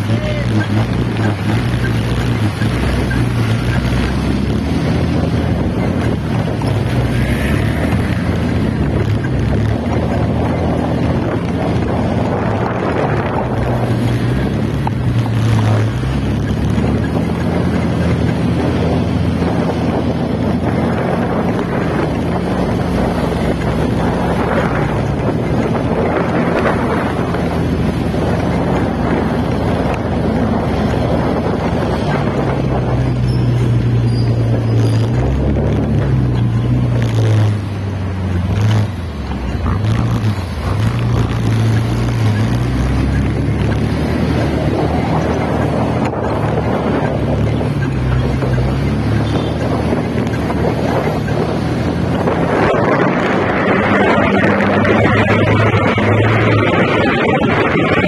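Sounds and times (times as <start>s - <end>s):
motorcycle engine droning: 0.0s - 58.0s
wind rushing over microphone: 0.0s - 58.0s.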